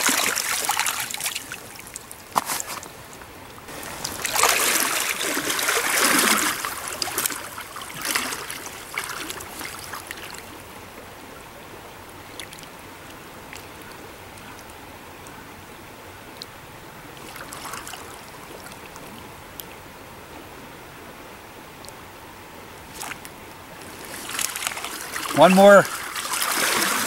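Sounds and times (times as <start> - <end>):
water splashing and sloshing: 0.0 - 15.5, 16.2 - 19.9, 21.3 - 27.0
stream running: 0.0 - 27.0.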